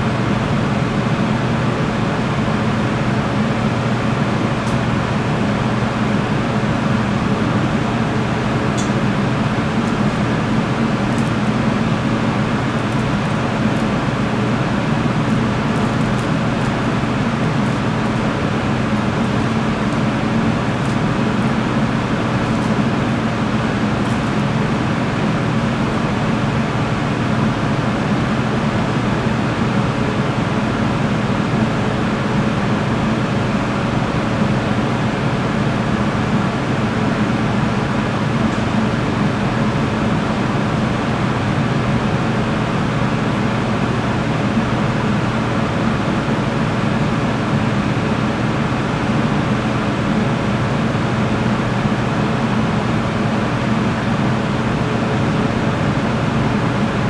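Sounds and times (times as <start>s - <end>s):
kitchen machinery droning: 0.0s - 57.0s.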